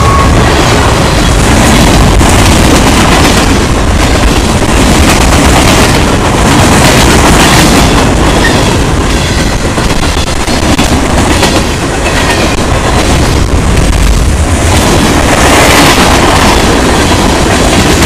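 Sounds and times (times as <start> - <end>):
freight train passing on rails: 0.0 - 18.0.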